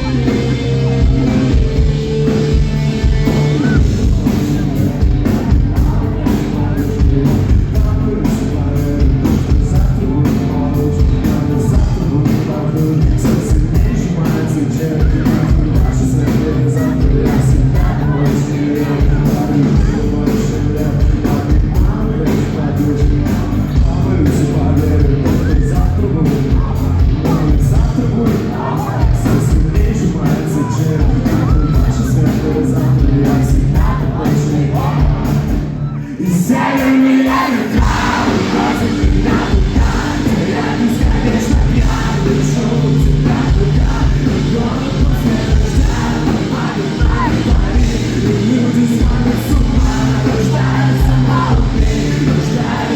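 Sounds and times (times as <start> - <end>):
crowd of fans: 0.0 - 52.9
live rock band with singing: 0.0 - 52.9.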